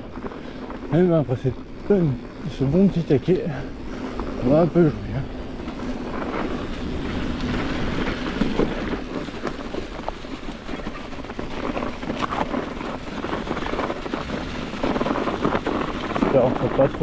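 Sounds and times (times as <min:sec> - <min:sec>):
bike clicks and rattles: 0:00.0 - 0:17.0
bike tyres on dirt: 0:00.0 - 0:17.0.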